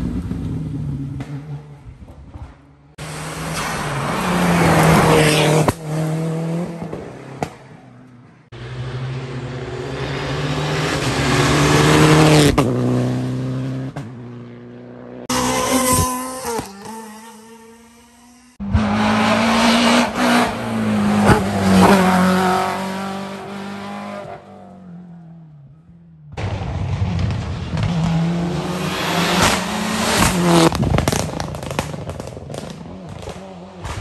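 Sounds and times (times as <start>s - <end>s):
rally cars passing at full throttle: 0.0s - 34.0s.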